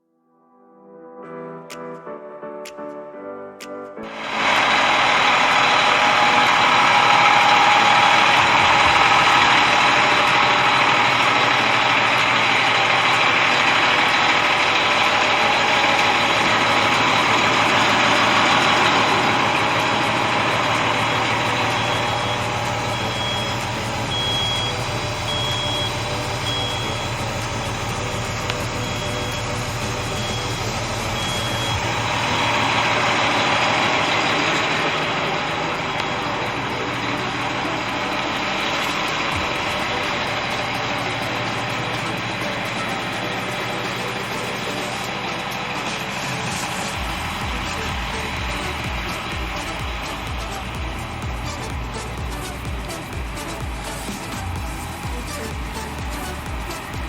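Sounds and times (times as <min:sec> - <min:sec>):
loud steady rushing noise: 0:04.0 - 0:57.0
backup alarm beeping: 0:04.1 - 0:56.9
diesel truck engine running: 0:04.1 - 0:57.0.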